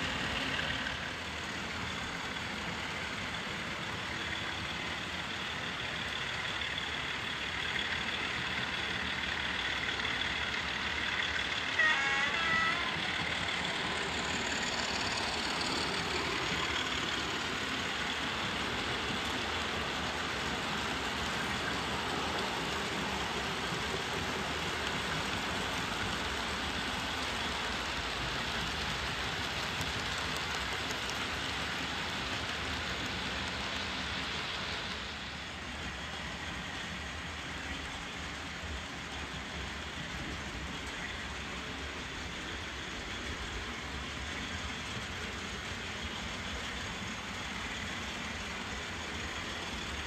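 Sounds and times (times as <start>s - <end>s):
model train wheels rumbling on track: 0.0s - 50.0s.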